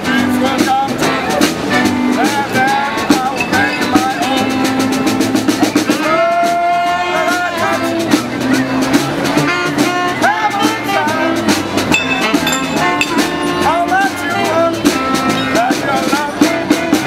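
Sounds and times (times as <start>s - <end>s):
street band playing funky tune: 0.0s - 17.0s.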